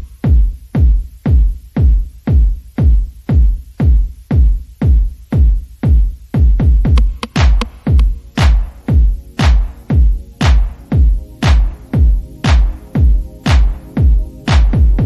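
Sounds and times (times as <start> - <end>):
electronic music: 0.0 - 15.0
heavy kick drum: 0.0 - 15.0.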